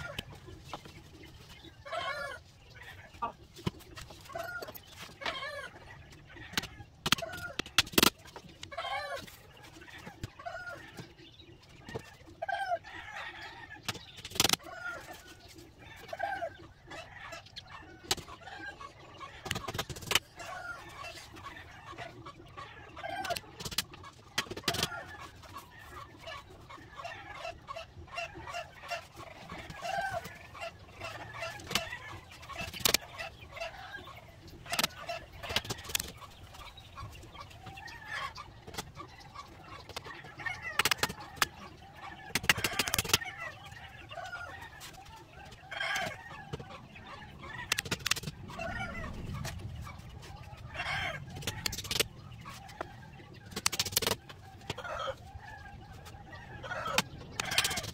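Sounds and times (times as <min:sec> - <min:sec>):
chickens clucking: 0:00.0 - 0:57.9.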